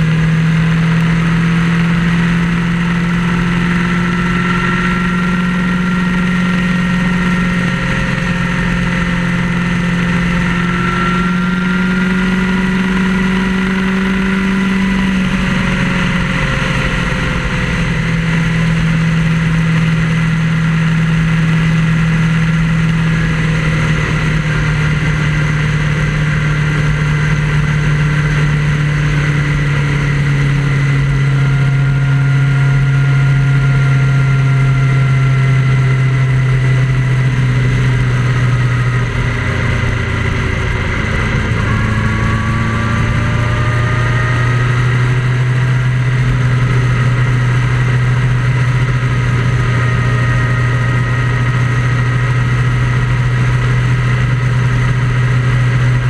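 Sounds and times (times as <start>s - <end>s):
low engine drone: 0.0s - 56.0s
road noise: 0.0s - 56.0s.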